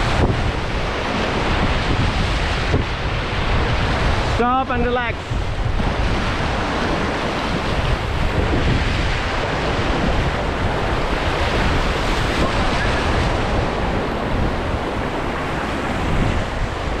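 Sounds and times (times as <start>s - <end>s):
river water rushing: 0.0s - 17.0s
wind rumbling on microphone: 0.0s - 17.0s.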